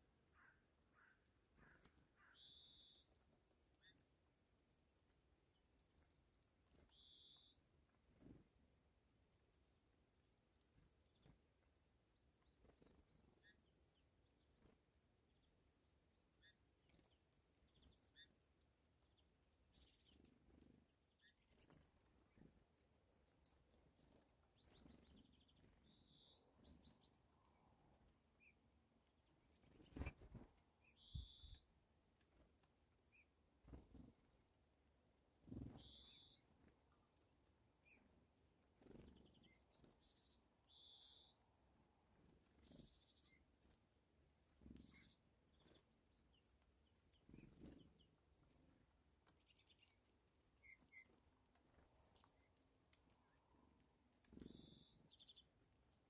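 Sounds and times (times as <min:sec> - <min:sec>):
songbird chirps: 0:00.0 - 0:56.0.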